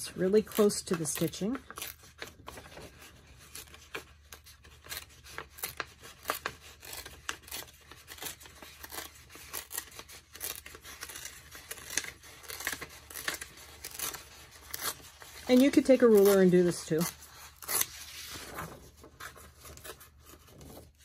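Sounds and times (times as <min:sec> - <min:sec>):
paper tearing: 0:00.0 - 0:21.0.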